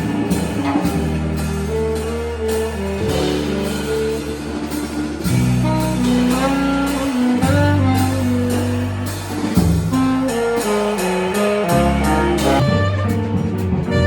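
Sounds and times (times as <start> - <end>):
low bass notes: 0.0 - 14.0.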